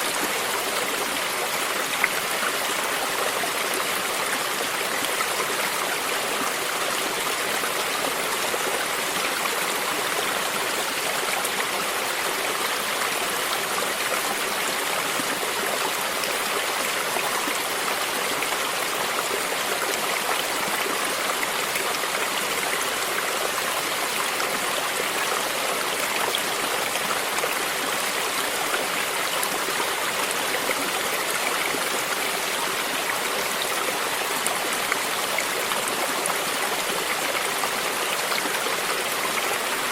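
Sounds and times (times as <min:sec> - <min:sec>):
distant small waterfall: 0:00.0 - 0:39.9.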